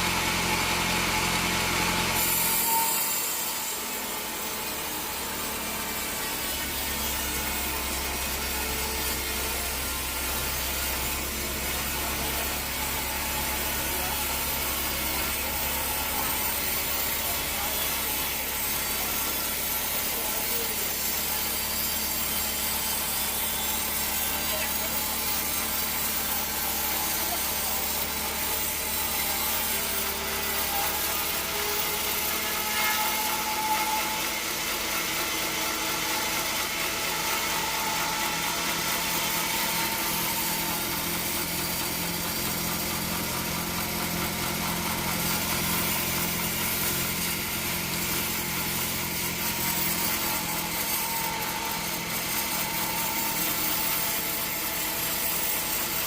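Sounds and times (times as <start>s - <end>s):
sawmill machine hum: 0.0s - 56.0s.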